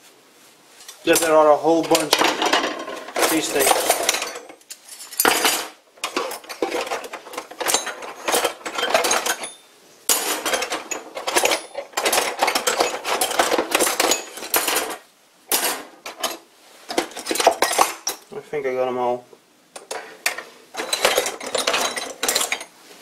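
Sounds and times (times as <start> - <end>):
metal tools clinking on workbench: 0.8 - 18.3, 19.8 - 22.8.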